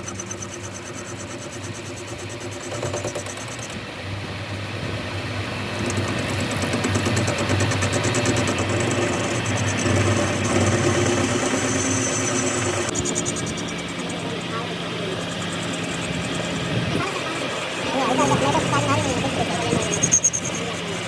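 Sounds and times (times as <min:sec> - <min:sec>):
fine fast ticking: 0:00.0 - 0:03.8, 0:05.6 - 0:21.0
engine running steadily: 0:00.0 - 0:21.0.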